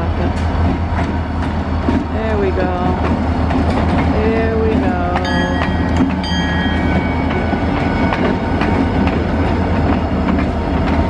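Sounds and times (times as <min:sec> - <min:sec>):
freight train rumbling past: 0:00.0 - 0:11.0
wheels clicking over rail joints: 0:00.2 - 0:11.0.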